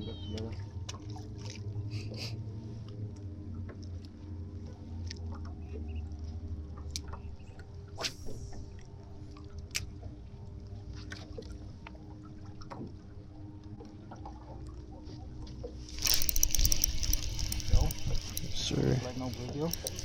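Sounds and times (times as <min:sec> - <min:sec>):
boat engine hum: 0:00.0 - 0:20.0.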